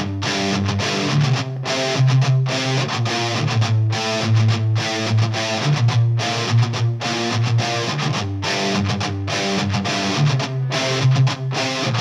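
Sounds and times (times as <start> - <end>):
guitar rock music: 0.0 - 12.0.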